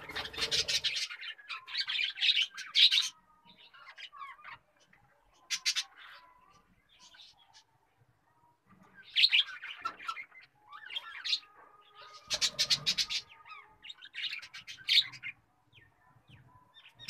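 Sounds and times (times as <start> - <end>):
birds chirping and calling: 0.0 - 7.9, 8.7 - 17.0.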